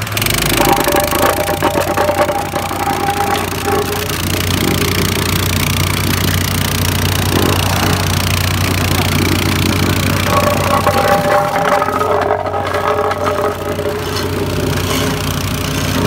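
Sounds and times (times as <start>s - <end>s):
plate compactor engine vibrating: 0.0s - 16.0s.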